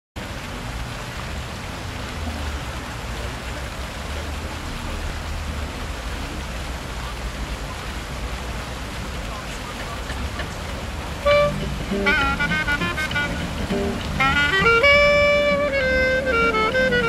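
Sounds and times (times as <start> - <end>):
fountain jets splashing: 0.2 - 17.0.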